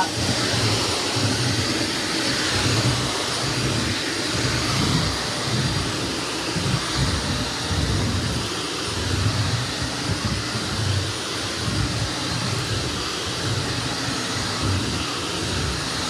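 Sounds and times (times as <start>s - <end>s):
vacuum cleaner running on wooden floor: 0.0s - 16.0s.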